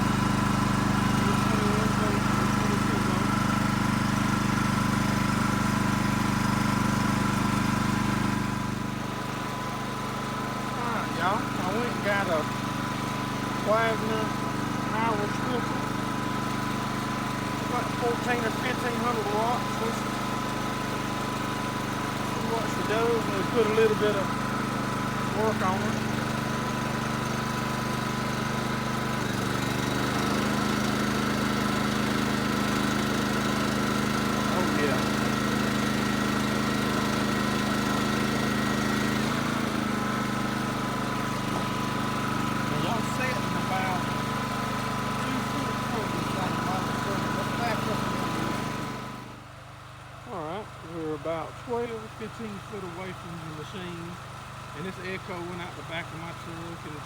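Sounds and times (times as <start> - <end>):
generator engine running: 0.0 - 57.0.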